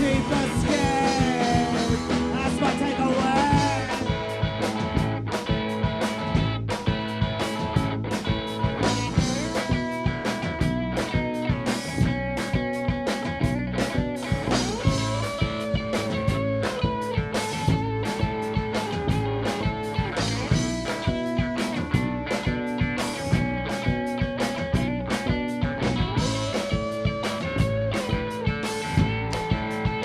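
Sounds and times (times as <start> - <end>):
bass guitar: 0.0 - 30.0
drum kit beat: 0.0 - 30.0
electric guitar: 0.0 - 30.0.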